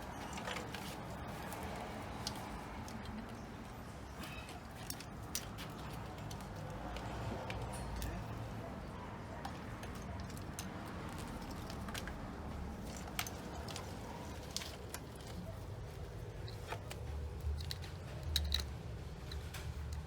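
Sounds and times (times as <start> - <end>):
small clicks and taps of parts: 0.2 - 8.5, 9.4 - 15.4, 16.5 - 20.0.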